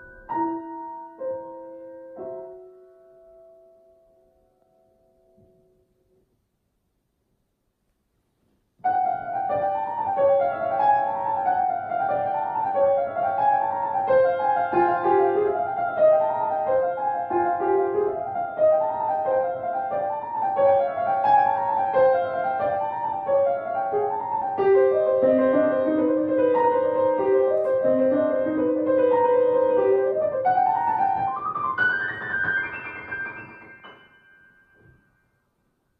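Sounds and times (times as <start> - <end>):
solo grand piano: 0.0 - 35.9.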